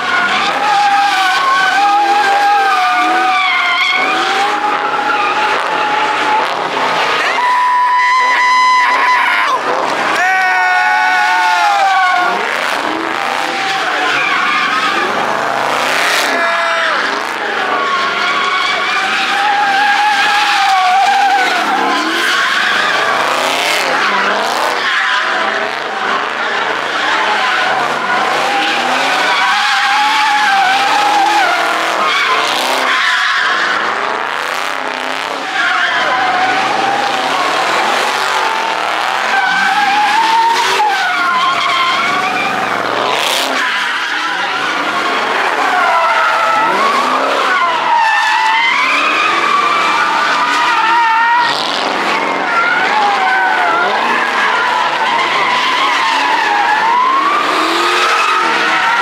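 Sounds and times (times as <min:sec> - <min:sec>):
tires squealing: 0:00.0 - 0:59.0
car engine revving: 0:09.6 - 0:10.3, 0:11.4 - 0:59.0.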